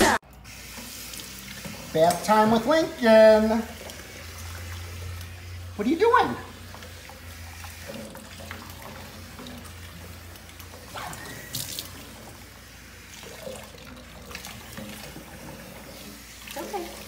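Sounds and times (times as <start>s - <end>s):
faucet sprayer water into sink: 0.0s - 17.0s.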